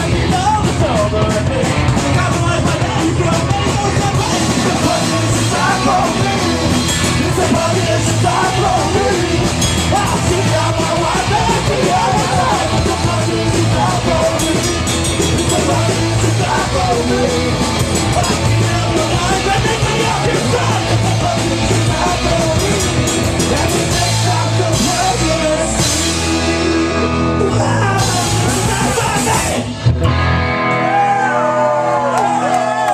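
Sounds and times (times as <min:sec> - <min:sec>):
shouted singing: 0:00.0 - 0:29.8
punk rock band playing: 0:00.0 - 0:32.9.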